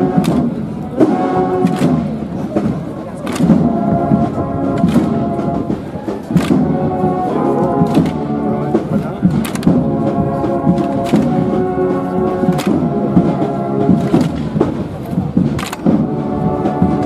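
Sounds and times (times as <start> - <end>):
band playing slow march: 0.0 - 17.0
sharp drum strikes: 0.1 - 11.6, 12.3 - 17.0.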